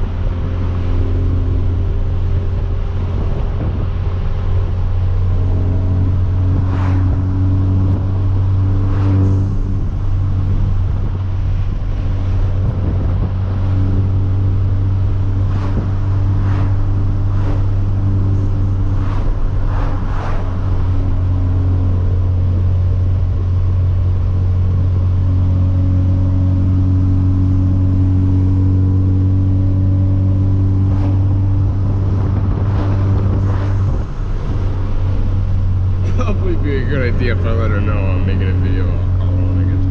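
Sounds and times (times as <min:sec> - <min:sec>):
car engine drone at cruise: 0:00.0 - 0:39.9.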